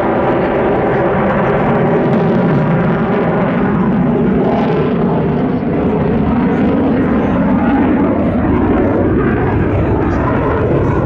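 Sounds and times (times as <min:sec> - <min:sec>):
fighter jet roar: 0:00.0 - 0:11.0.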